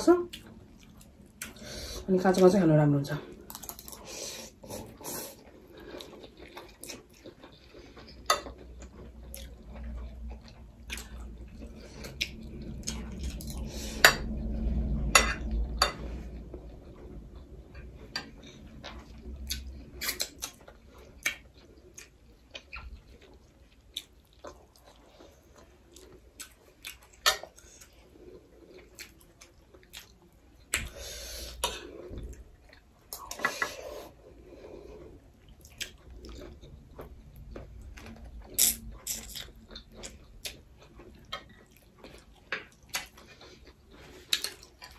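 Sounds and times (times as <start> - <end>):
chewing: 0.3 - 1.6, 3.2 - 14.2, 15.8 - 44.9.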